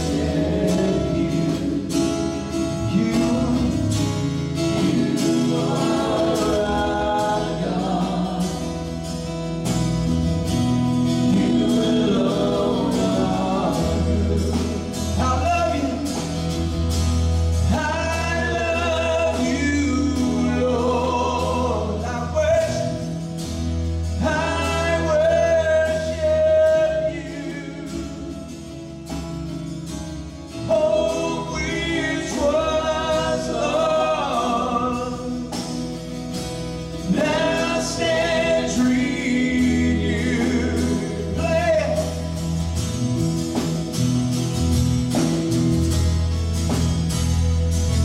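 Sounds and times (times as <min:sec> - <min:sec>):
instrumental backing with bass: 0:00.0 - 0:48.0
voices singing worship music: 0:00.0 - 0:48.0.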